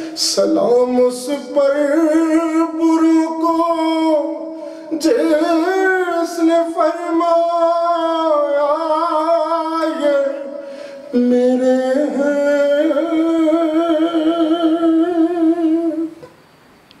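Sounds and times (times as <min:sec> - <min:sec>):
man singing drawn-out line: 0:00.0 - 0:16.2.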